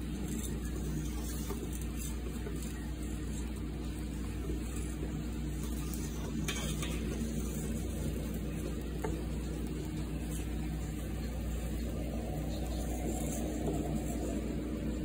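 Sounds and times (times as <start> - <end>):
low steady hum: 0.0 - 15.0
sausages sizzling in a pan: 0.0 - 15.0
thick grits stirred in a pot: 0.0 - 15.0.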